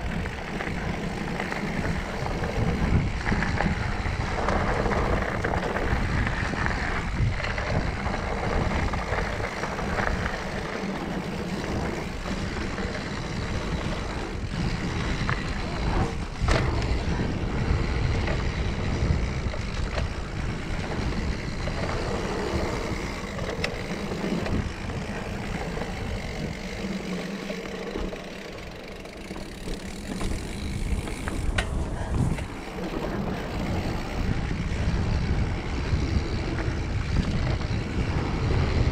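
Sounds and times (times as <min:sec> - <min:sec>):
bike rattling: 0:00.0 - 0:38.9
knobby tyres rolling on dirt: 0:00.0 - 0:38.9
sharp clacks over bumps: 0:00.0 - 0:38.9
wind noise on microphone: 0:00.0 - 0:38.9.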